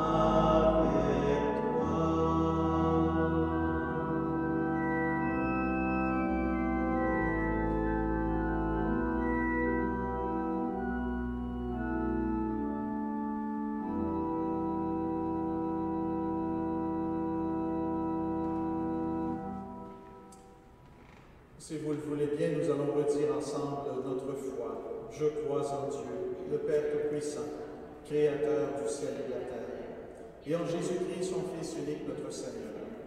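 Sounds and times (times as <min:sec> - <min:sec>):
organ playing sustained chords: 0:00.0 - 0:20.8, 0:21.6 - 0:33.0.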